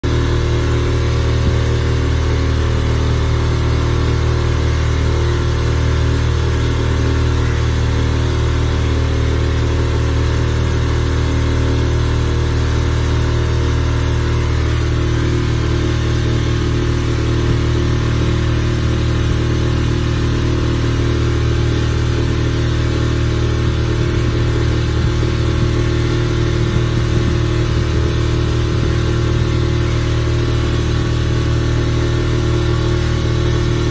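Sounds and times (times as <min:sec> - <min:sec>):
motorboat engine droning: 0:00.0 - 0:33.9.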